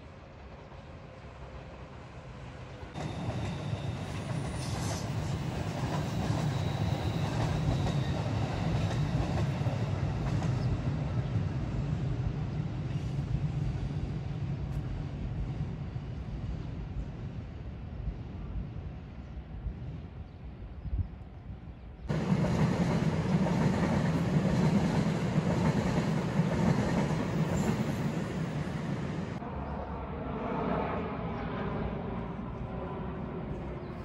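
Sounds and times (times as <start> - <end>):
electric train passing: 0.0 - 18.0, 22.1 - 33.9.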